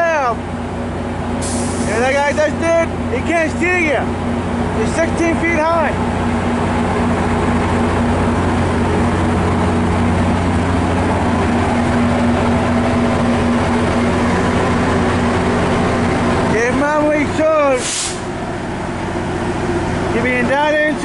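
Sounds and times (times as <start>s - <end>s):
diesel locomotive engine drone: 0.0s - 21.0s
train wheels rumbling on rails: 1.6s - 18.6s.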